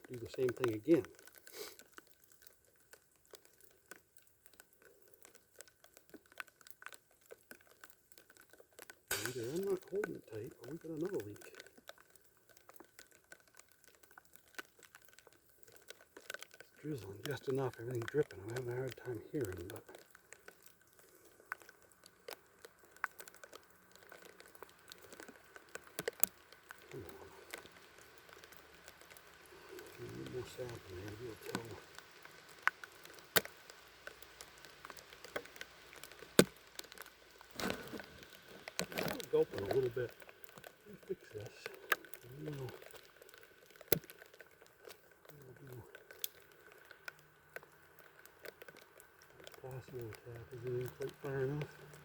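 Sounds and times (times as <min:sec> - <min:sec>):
drips ticking in light drizzle: 0:00.0 - 0:52.0.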